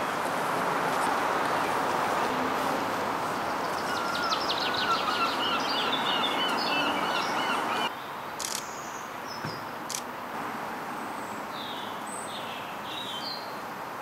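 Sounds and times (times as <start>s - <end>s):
steady background noise: 0.0s - 14.0s
songbird singing: 0.9s - 10.1s, 11.1s - 13.6s.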